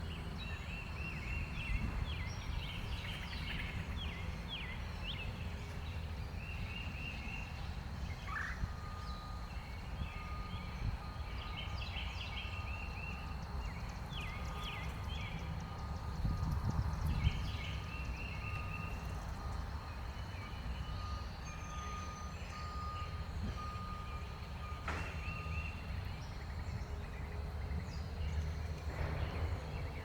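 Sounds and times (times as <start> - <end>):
small songbirds chirping: 0.0 - 30.0.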